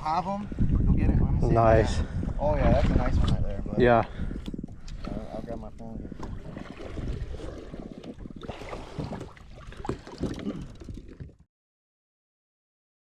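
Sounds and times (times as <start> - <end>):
wind rumbling on microphone: 0.0 - 11.5.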